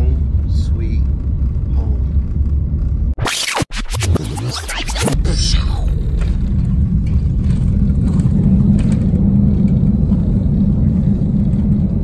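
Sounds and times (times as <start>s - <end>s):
airliner cabin low rumble: 0.0s - 3.2s, 5.2s - 12.0s.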